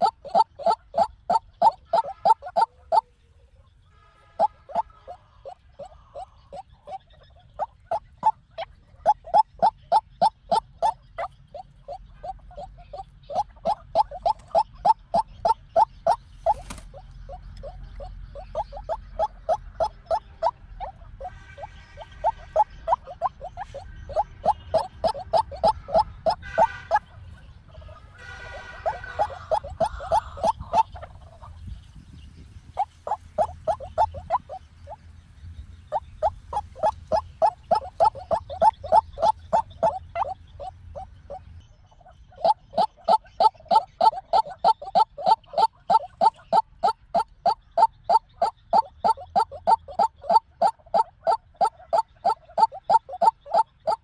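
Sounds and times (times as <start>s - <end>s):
bird calling harsh notes: 0.0s - 3.1s, 4.0s - 27.1s, 28.1s - 31.2s, 32.7s - 35.0s, 35.8s - 54.0s.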